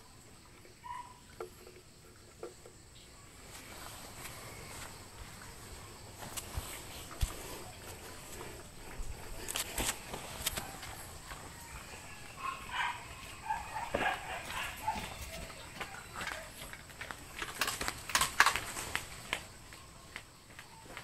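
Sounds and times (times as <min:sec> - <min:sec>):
barefoot footsteps on dirt path: 0:03.5 - 0:21.0.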